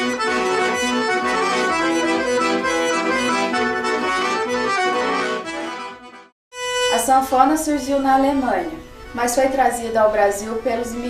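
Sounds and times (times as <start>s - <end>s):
accordion playing lively tune: 0.0s - 11.0s.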